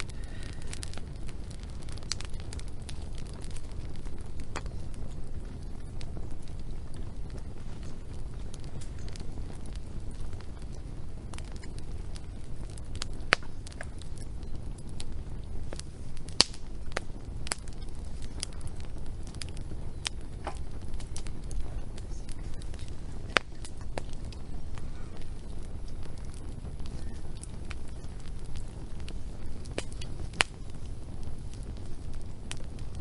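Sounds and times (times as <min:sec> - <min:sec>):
low steady rumble: 0:00.0 - 0:33.0
wood fire crackling and popping: 0:00.0 - 0:33.0.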